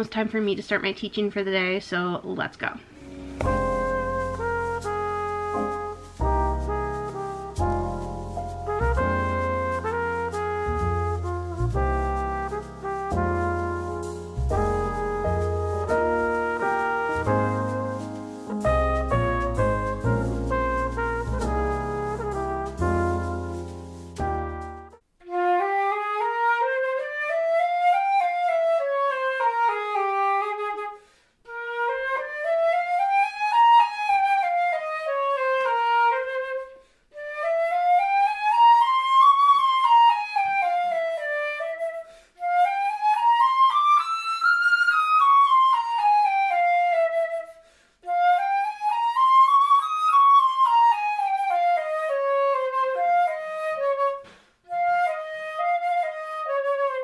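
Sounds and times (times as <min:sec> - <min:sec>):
flute playing scales: 0:03.0 - 0:57.0.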